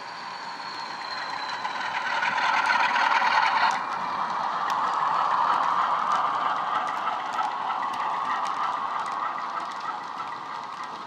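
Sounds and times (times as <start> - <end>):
model locomotive diesel engine sound: 0.0 - 11.0
model wagon wheels clicking: 0.0 - 11.0.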